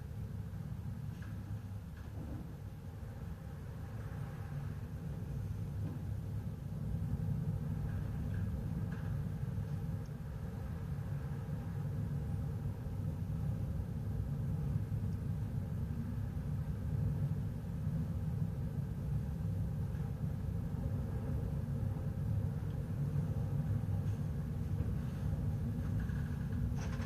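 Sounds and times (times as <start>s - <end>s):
faint constant hum: 0.0s - 27.0s.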